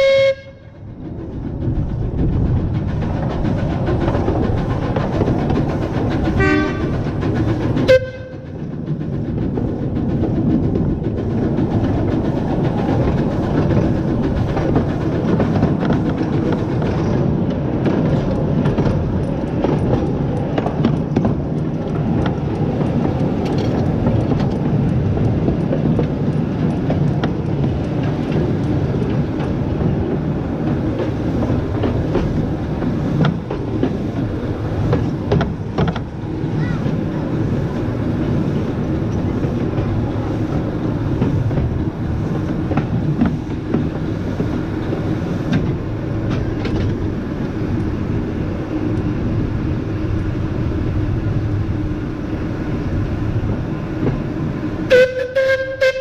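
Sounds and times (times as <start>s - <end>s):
steam locomotive running: 0.0s - 56.0s
wheels clicking on rails: 0.0s - 56.0s.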